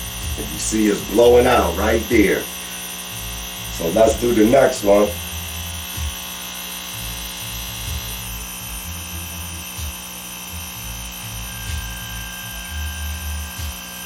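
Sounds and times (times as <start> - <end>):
electric air pump humming: 0.0 - 14.0.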